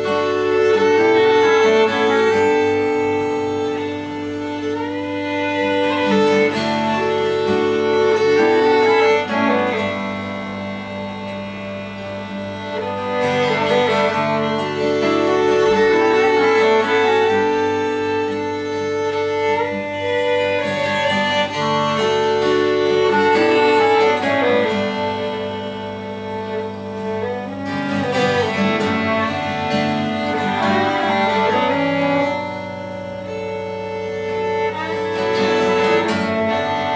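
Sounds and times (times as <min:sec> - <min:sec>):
clarinet: 0:00.0 - 0:36.9
strummed acoustic guitar: 0:00.0 - 0:36.9
violin: 0:00.0 - 0:36.9.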